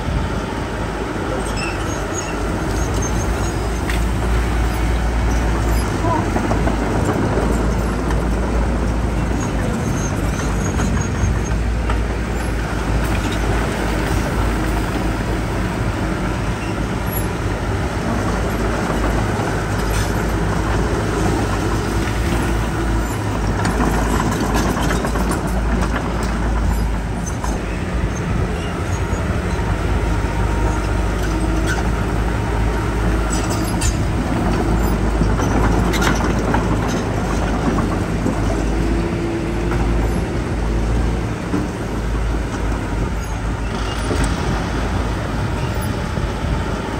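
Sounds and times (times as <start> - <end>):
heavy diesel engines rumbling: 0.0 - 46.9.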